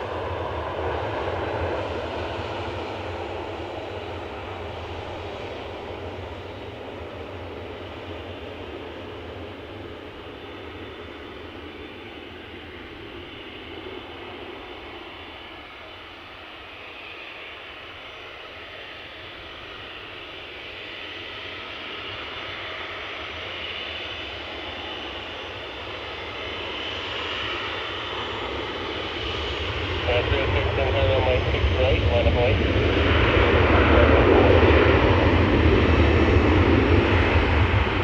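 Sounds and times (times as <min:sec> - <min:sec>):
airliner engine rushing: 0:00.0 - 0:38.0.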